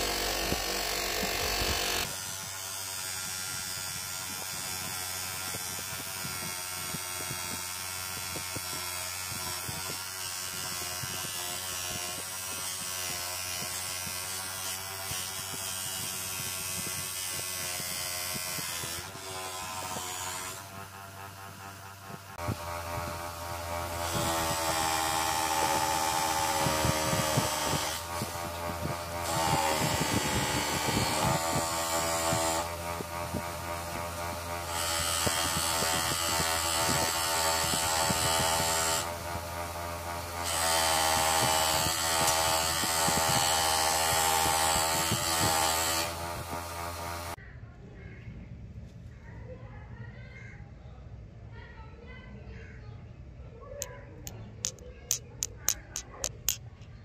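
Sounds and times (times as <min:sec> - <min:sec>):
polishing motor hum and whine: 0:00.0 - 0:47.4.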